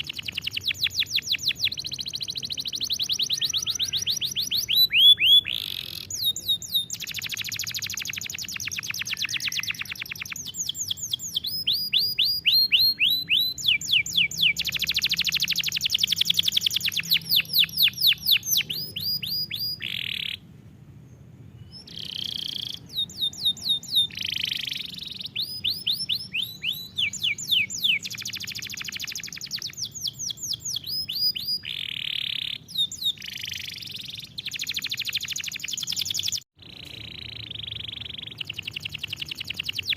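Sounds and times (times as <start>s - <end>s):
canary singing trills: 0.0s - 20.5s, 21.1s - 39.9s.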